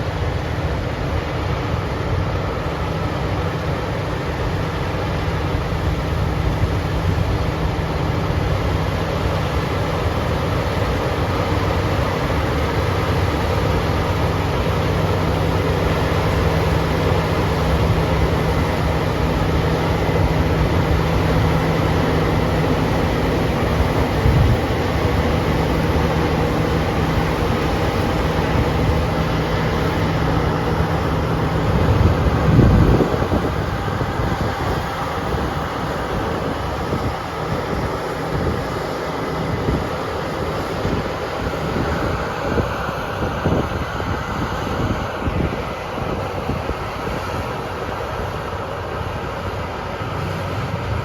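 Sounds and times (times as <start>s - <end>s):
harvest machinery engine running: 0.0s - 51.0s.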